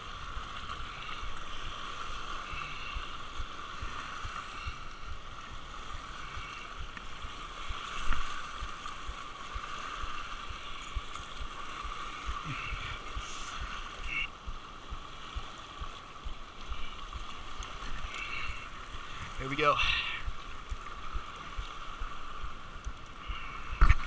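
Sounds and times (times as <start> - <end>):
small waves lapping on rocks: 0.0 - 24.0.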